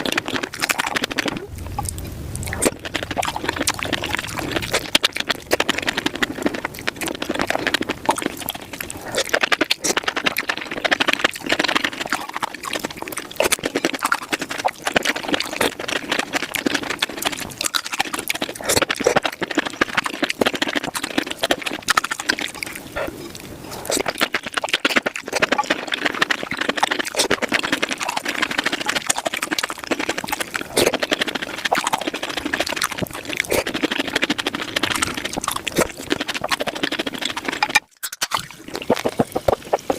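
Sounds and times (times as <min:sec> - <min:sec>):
sped-up chewing and slurping: 0:00.0 - 0:39.9.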